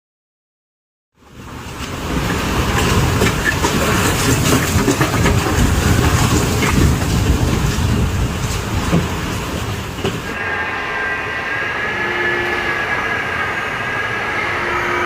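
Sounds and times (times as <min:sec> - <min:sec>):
wind-driven rain roaring: 0:01.2 - 0:15.0.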